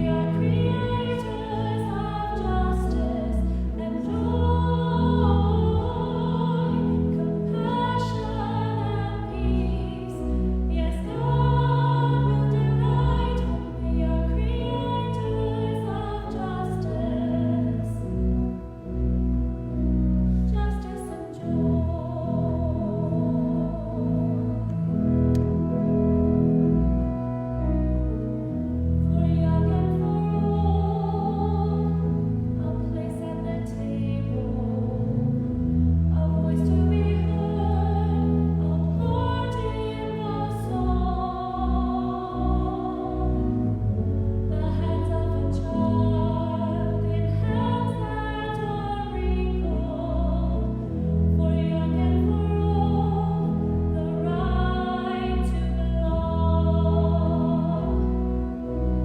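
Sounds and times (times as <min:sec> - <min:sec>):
organ playing: 0:00.0 - 0:59.0.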